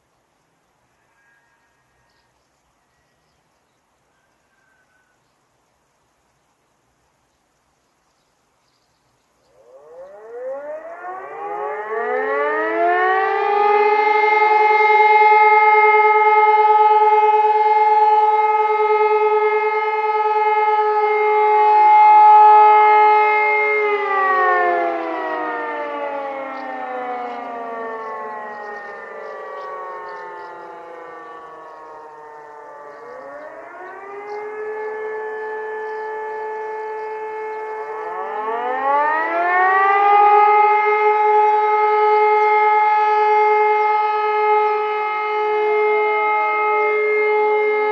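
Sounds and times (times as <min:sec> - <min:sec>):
civil defence siren: 0:00.0 - 0:06.8, 0:09.0 - 0:47.9.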